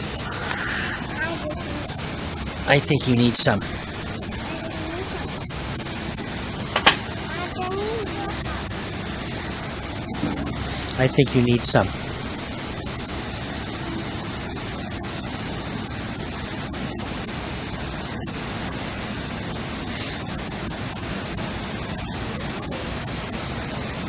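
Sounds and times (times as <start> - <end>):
steady static hiss: 0.0 - 24.0.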